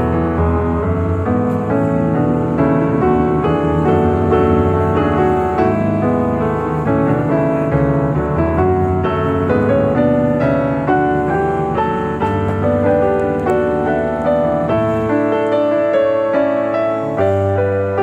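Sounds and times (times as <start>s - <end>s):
piano melody with held chords: 0.0s - 18.0s.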